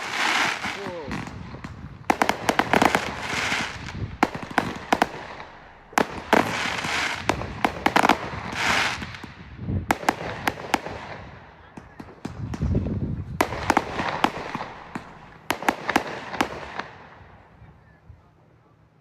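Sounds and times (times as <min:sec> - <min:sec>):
fireworks crackle: 0:00.0 - 0:17.5
fireworks bangs: 0:00.0 - 0:17.6.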